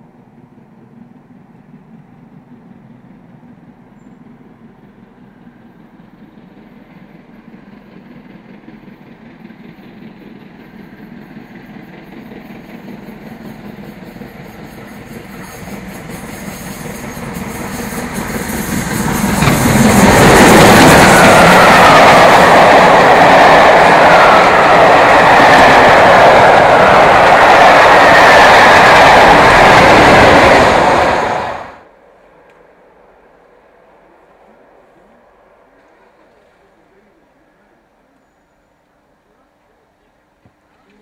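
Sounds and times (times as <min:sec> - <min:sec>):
steam locomotive approaching: 0:00.0 - 0:41.0.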